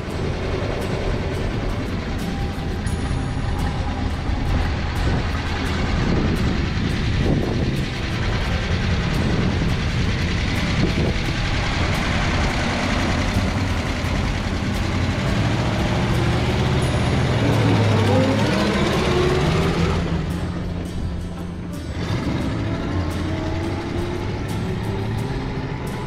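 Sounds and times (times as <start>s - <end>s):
pickup truck engine running: 0.0s - 26.0s.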